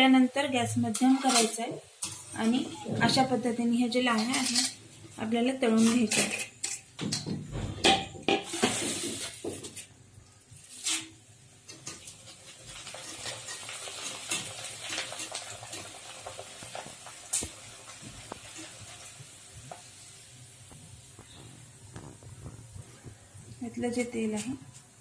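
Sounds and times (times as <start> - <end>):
food sizzling in hot oil: 0.0 - 7.1, 8.2 - 22.9.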